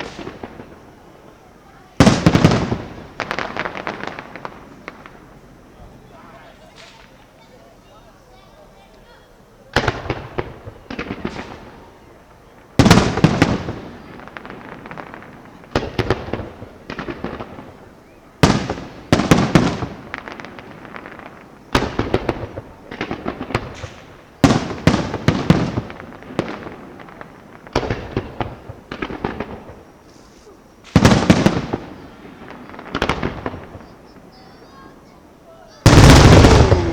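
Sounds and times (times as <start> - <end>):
fireworks cracks and bangs: 0.0 - 36.9.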